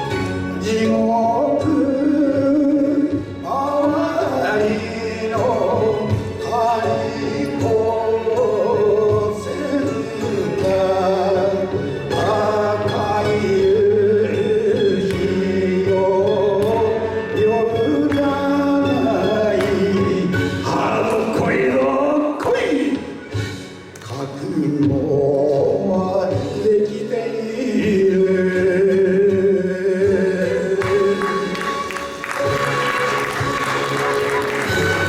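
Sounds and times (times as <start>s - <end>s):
person singing with vibrato: 0.0s - 23.3s, 24.0s - 35.0s
instrumental accompaniment: 0.0s - 35.0s.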